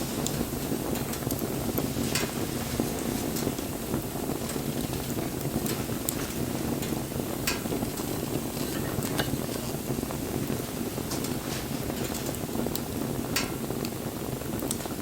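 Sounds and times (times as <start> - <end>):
burning wood crackling: 0.0 - 15.0
rush of flames: 0.0 - 15.0.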